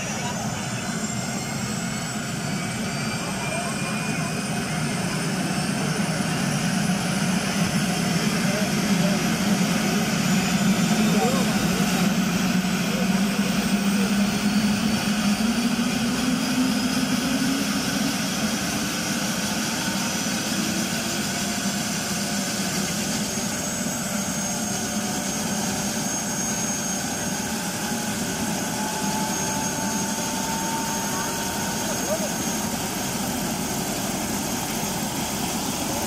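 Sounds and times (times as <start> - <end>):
helicopter turbine whine: 0.0 - 36.0.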